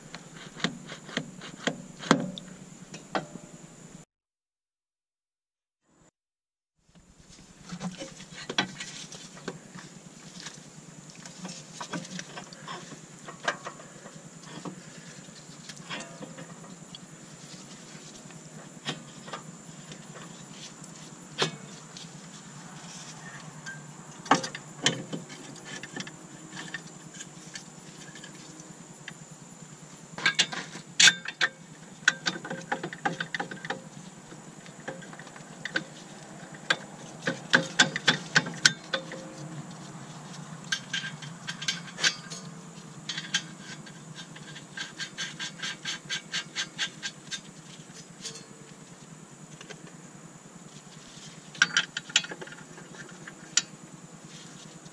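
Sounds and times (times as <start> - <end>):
steady background hum: 6.9 - 54.9.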